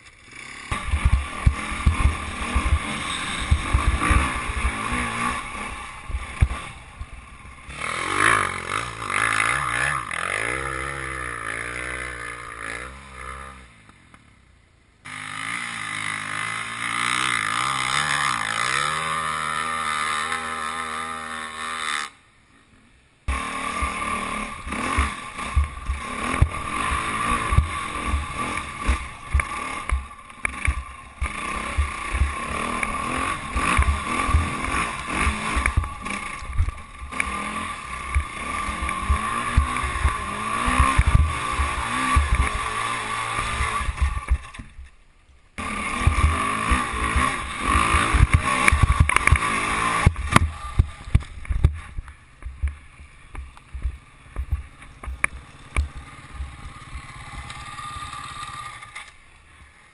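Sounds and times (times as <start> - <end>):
dirt bike engine revving: 0.0 - 14.0, 15.0 - 22.2, 23.2 - 44.8, 45.6 - 59.9.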